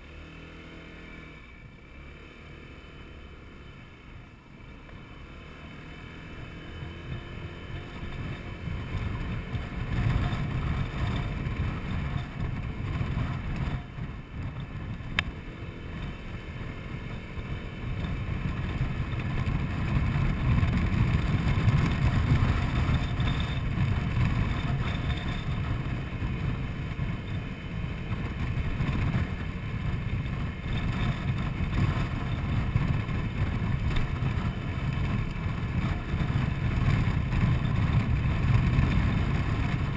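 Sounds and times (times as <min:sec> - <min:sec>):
scooter engine accelerating: 0:00.0 - 0:39.9
wind rushing over microphone: 0:06.0 - 0:39.9.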